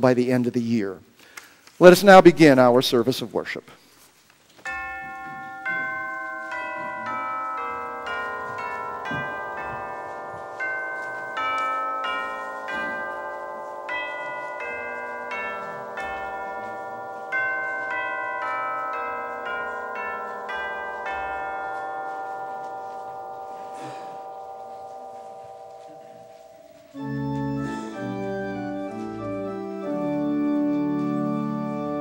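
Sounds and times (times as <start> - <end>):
bell chimes slow melody: 4.7 - 32.0.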